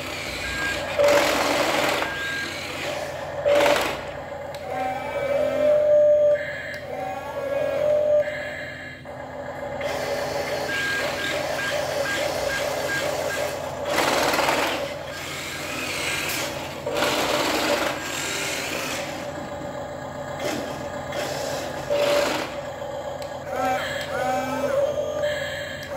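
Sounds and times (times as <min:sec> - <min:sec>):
small electric motors whirring: 0:00.0 - 0:05.9, 0:09.8 - 0:19.4, 0:20.4 - 0:25.9
simulated truck sounds from speaker: 0:00.0 - 0:25.9.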